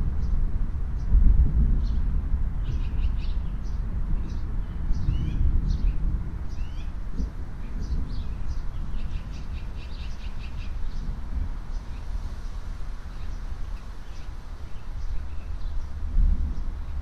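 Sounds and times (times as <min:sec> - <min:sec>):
songbirds chirping: 0:00.0 - 0:17.0
steady low rumble: 0:00.0 - 0:17.0.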